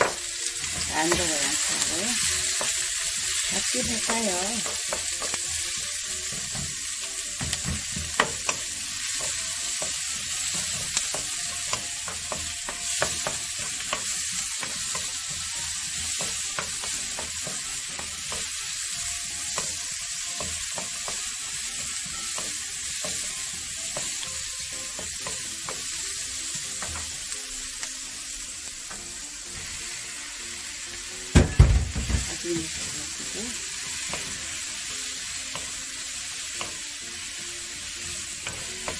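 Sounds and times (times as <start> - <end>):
onions sizzling in oil: 0.0 - 38.9.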